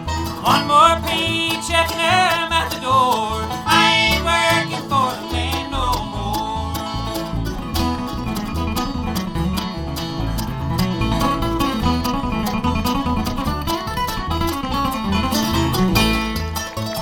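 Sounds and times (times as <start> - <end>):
bluegrass band playing: 0.0 - 17.0
guitar picking: 0.0 - 17.0
stepping bass line: 0.0 - 17.0.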